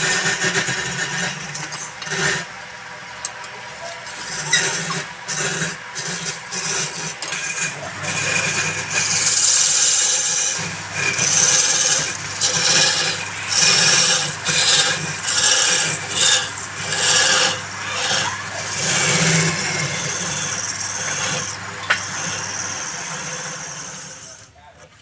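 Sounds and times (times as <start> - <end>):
wood scraping on a lathe: 0.0 - 2.6, 3.2 - 25.0
lathe motor hum: 0.0 - 24.7.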